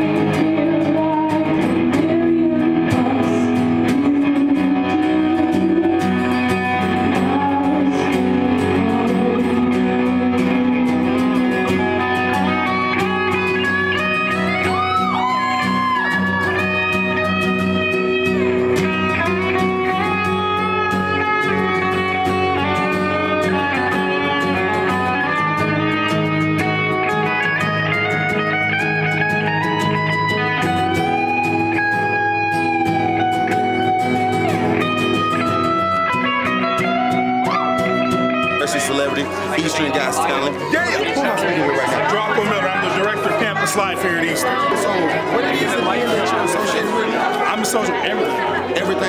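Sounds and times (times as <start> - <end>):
electric guitar lead: 0.0 - 49.0
strummed acoustic guitar: 0.0 - 49.0.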